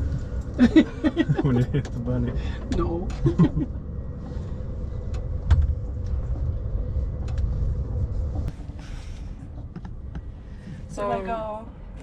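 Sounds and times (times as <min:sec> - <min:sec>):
road rumble inside truck cab: 0:00.0 - 0:12.0.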